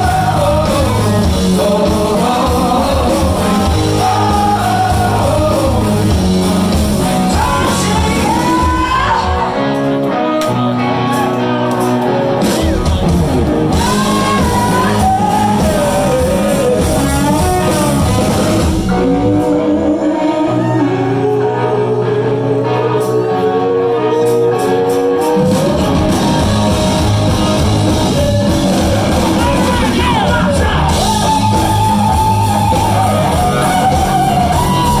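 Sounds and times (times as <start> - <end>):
man singing: 0.0 - 6.3, 7.0 - 9.6, 13.7 - 26.2, 27.9 - 35.0
bass line: 0.0 - 35.0
electric guitar: 0.0 - 35.0.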